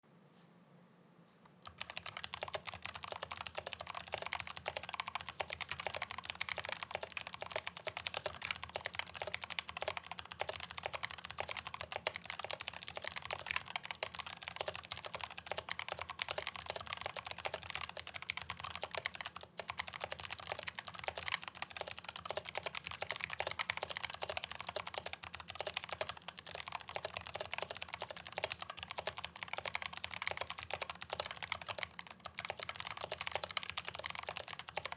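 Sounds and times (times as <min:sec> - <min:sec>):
clicky mechanical keyboard typing: 0:01.6 - 0:34.9.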